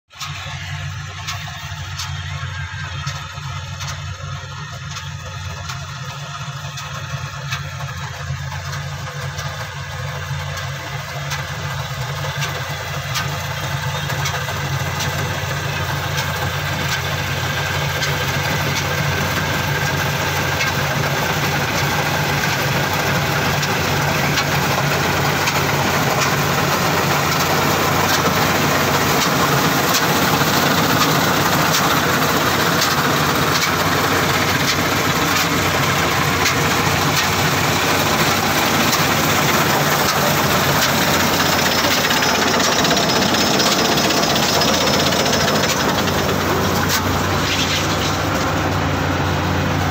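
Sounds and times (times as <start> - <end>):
combine harvester running: 0.1 - 49.9.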